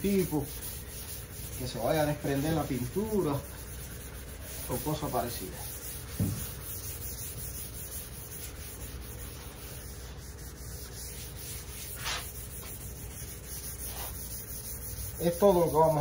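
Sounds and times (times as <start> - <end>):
sanding sponge scuffing: 0.0 - 16.0.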